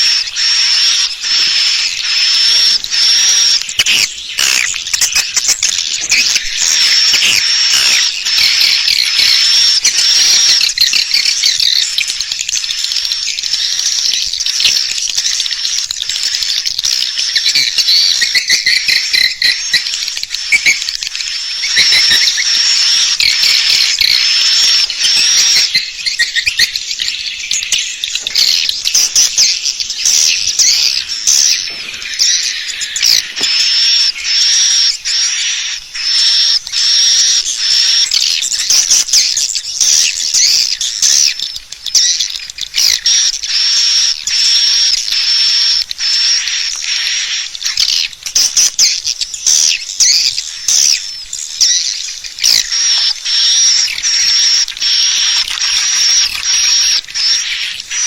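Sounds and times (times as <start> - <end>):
high bird chirps: 0.0 - 58.0.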